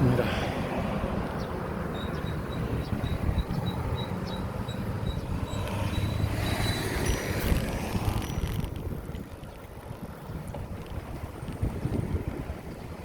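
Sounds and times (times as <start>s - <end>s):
wind on microphone: 0.0s - 13.0s
bicycle tyre noise: 2.4s - 13.0s.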